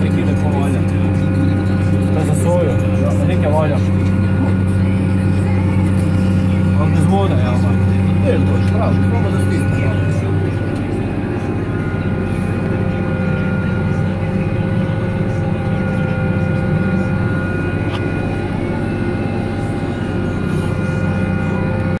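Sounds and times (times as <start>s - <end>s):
steady whine: 0.0s - 22.0s
tractor diesel engine droning: 0.0s - 22.0s.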